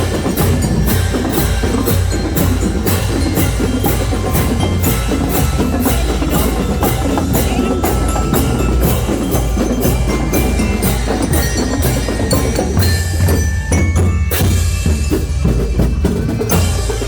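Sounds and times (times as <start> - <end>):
percussion band drumming: 0.0 - 17.0.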